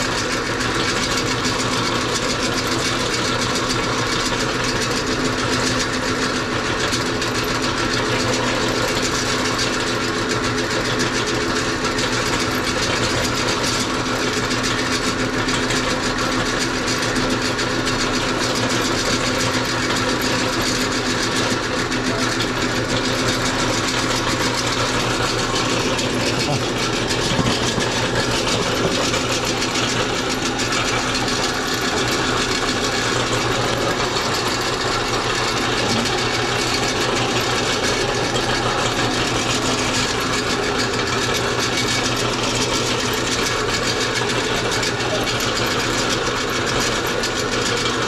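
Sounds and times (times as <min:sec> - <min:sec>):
electric meat grinder running: 0:00.0 - 0:48.0.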